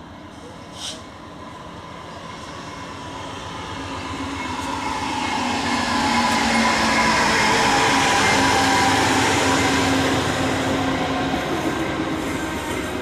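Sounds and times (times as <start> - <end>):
diesel locomotive engine: 0.0 - 13.0
train wheel noise: 2.2 - 13.0.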